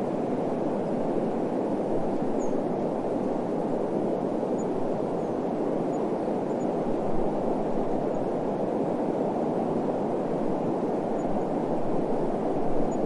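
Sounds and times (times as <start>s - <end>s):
wind blowing: 0.0s - 13.0s.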